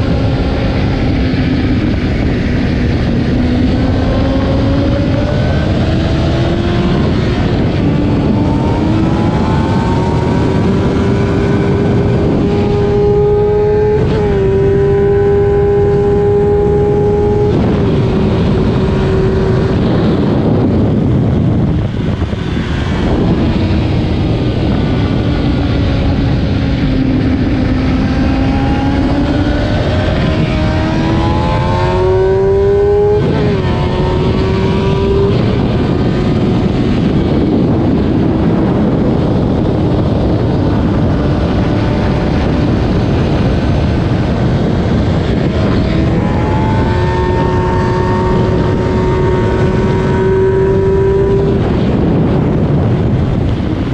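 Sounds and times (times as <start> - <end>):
motorcycle engine revving: 0.0 - 53.9
wind rush on microphone: 0.0 - 53.9.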